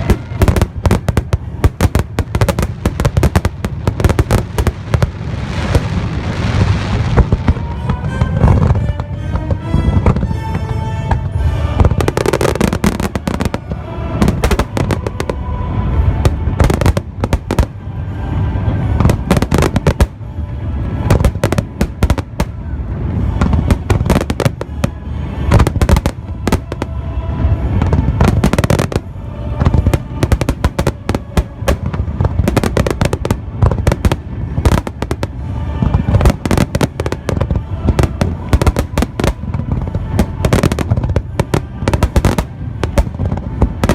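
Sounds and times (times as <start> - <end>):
fireworks bangs and crackles: 0.0 - 43.9
music: 0.0 - 43.9.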